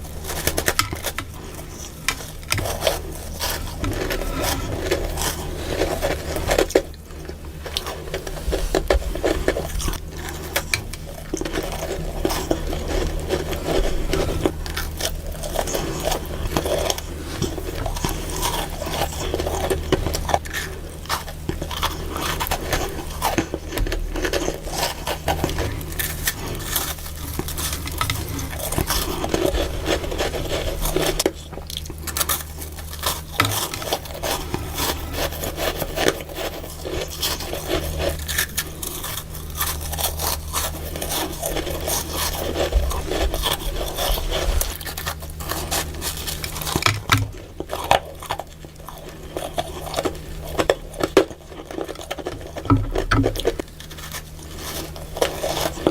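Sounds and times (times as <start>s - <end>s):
frost being scraped and crunched: 0.0s - 55.9s.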